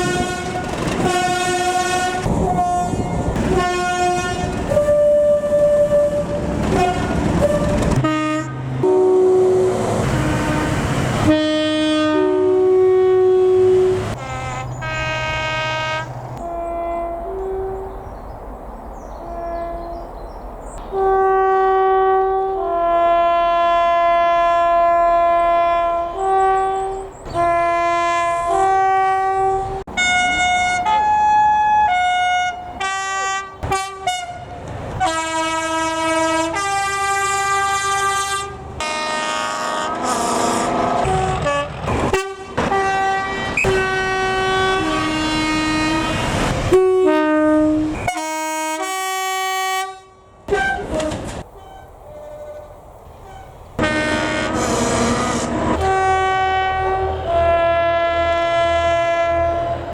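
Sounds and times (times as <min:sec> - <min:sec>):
train air horns: 0:00.0 - 0:17.9, 0:20.8 - 0:59.9
train running noise: 0:00.0 - 0:59.9.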